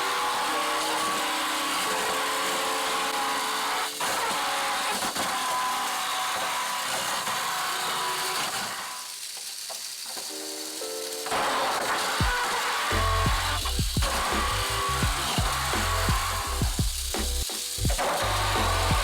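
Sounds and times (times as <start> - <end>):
spinning top whirring: 0.0 - 19.0.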